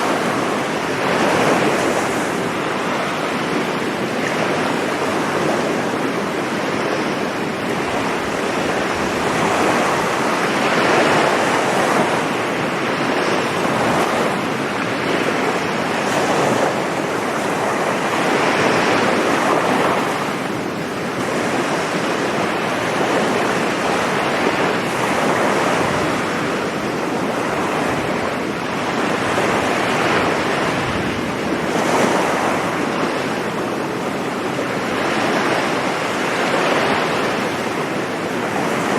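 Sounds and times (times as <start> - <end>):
sea waves breaking: 0.0 - 38.9
wind on microphone: 0.0 - 38.9.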